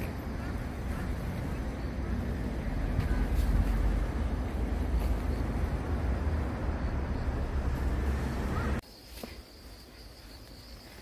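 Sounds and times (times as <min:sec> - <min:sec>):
low outdoor rumble: 0:00.0 - 0:08.8.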